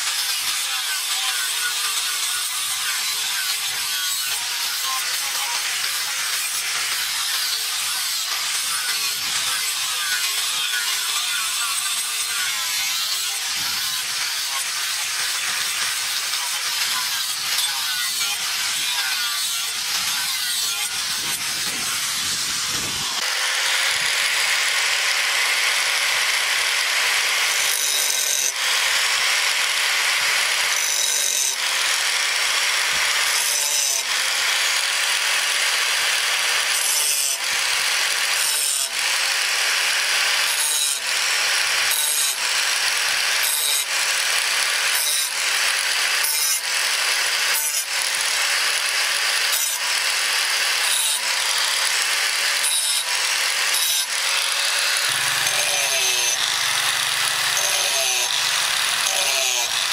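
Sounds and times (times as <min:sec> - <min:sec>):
angle grinder grinding steel: 0:00.0 - 0:59.9
grinder cutting notches: 0:00.0 - 0:59.9.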